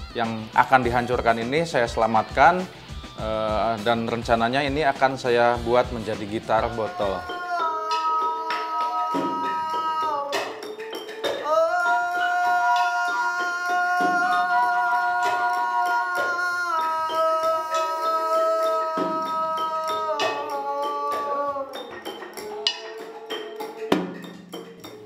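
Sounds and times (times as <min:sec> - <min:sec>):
man singing long held notes: 0:00.0 - 0:22.6
struck percussion hits: 0:02.0 - 0:25.0.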